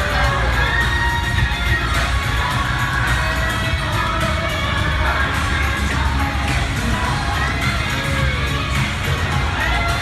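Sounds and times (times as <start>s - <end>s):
music soundtrack: 0.0s - 10.0s
recorded cheering: 0.0s - 10.0s.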